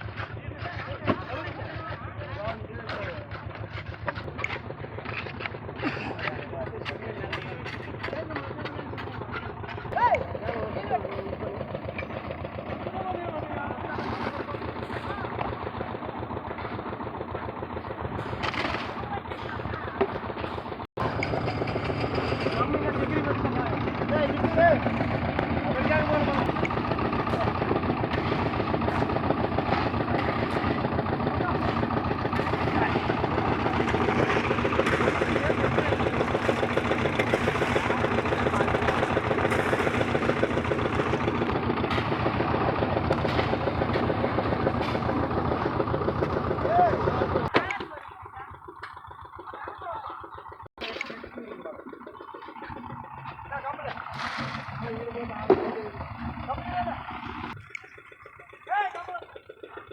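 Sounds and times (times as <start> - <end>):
machine engine chugging: 0.0 - 59.9.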